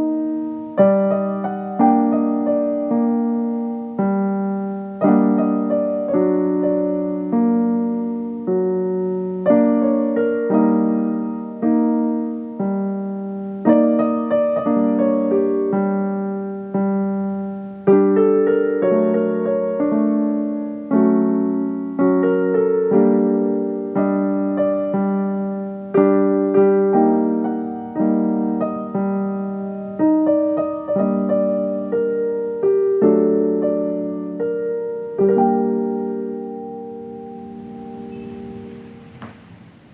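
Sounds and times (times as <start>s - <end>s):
slow solo piano music: 0.0s - 39.9s.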